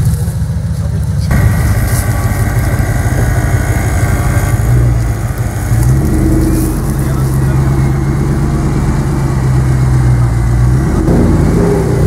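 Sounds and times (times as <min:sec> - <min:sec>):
engine deep rumble: 0:00.0 - 0:12.0.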